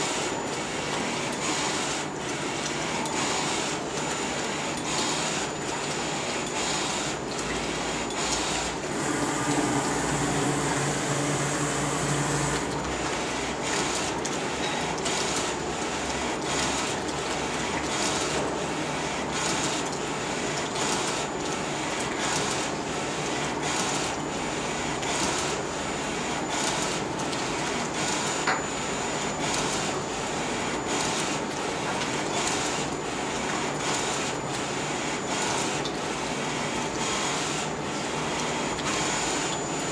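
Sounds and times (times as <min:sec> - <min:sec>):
printer carriage whirring: 0:00.0 - 0:39.9.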